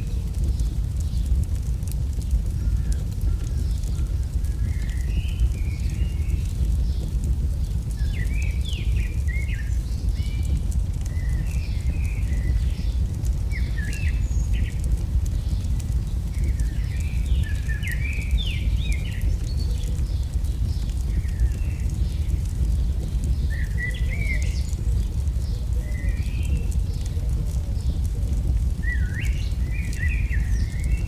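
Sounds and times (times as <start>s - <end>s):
campfire crackling: 0.0s - 31.0s
small birds chirping: 0.0s - 31.0s.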